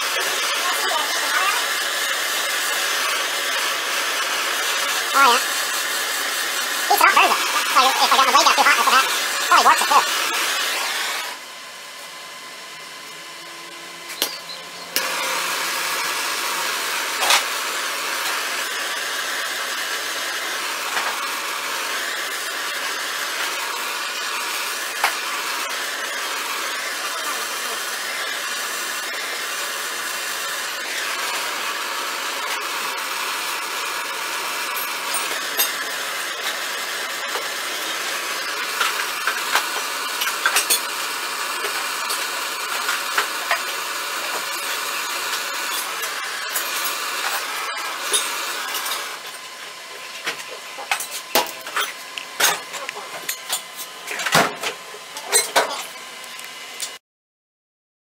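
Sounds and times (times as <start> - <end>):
gas torch flame hissing: 0.0 - 11.4, 14.0 - 57.0.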